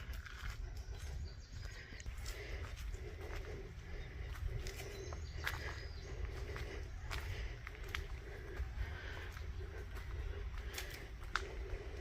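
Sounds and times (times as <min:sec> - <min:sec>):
footsteps on trail: 0:00.0 - 0:12.0.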